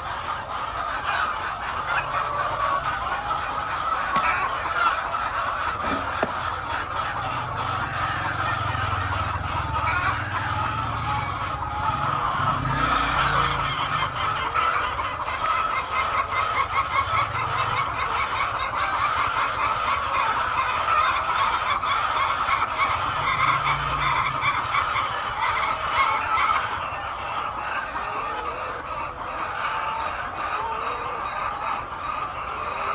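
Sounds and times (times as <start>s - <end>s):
flock of poultry calling: 0.0s - 32.9s.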